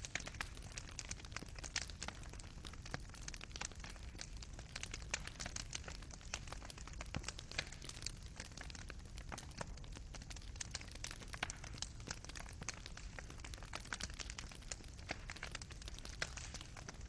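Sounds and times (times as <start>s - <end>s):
fire crackling: 0.0s - 17.0s
pops and snaps of burning wood: 0.0s - 17.0s.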